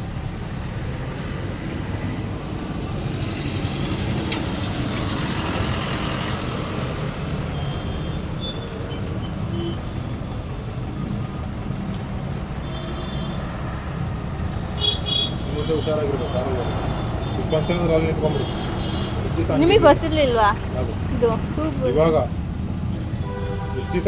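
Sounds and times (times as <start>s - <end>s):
motor vehicle rumble: 0.0s - 24.0s.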